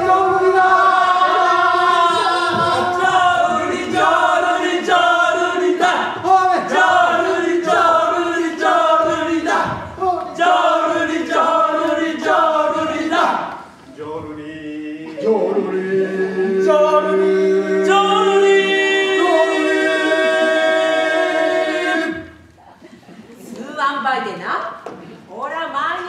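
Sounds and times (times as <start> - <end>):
group singing in unison: 0.0 - 22.5.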